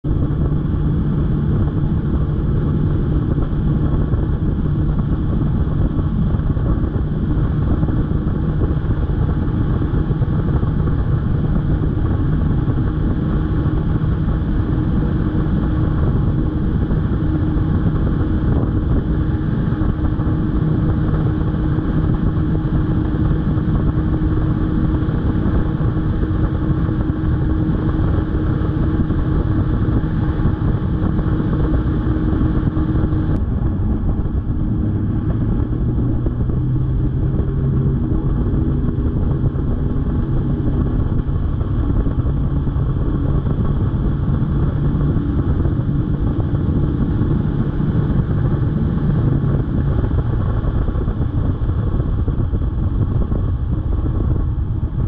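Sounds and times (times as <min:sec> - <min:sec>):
wind and water rushing: 0:00.0 - 0:53.6
outboard motor running: 0:00.0 - 0:55.0.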